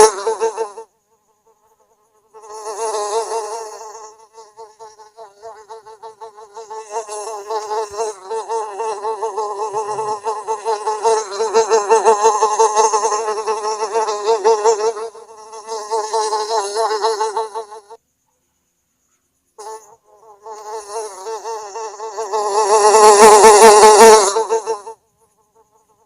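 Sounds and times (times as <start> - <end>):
fly buzzing in flight: 0.0 - 18.0, 19.6 - 26.0.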